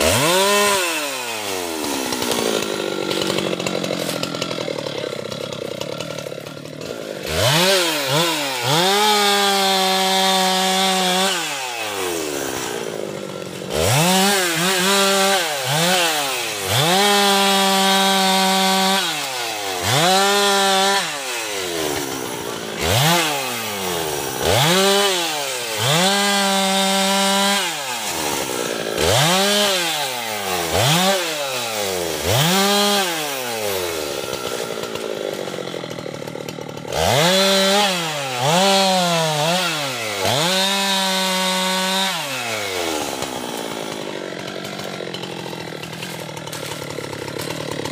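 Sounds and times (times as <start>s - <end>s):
chainsaw revving: 0.0s - 47.9s.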